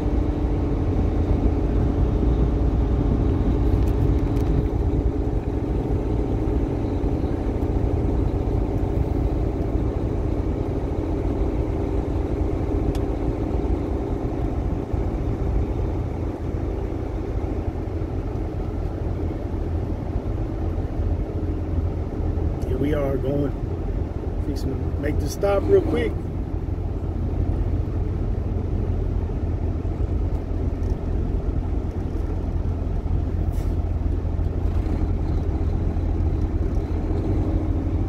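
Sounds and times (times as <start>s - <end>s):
low road rumble: 0.0s - 38.0s
truck diesel engine running: 0.0s - 38.0s.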